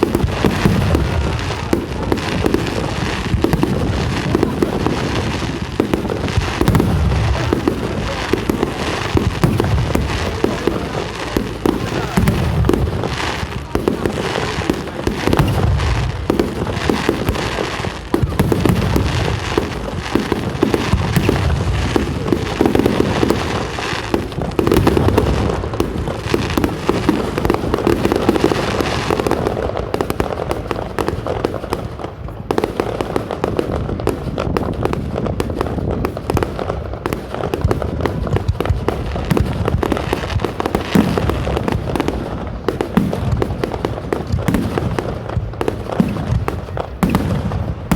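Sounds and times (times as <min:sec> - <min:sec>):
fireworks banging and crackling: 0:00.0 - 0:47.9.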